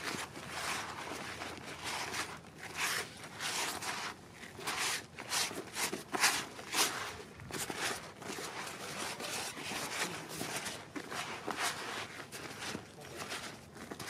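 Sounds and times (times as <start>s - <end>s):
hands kneading damp bait: 0.0s - 14.0s.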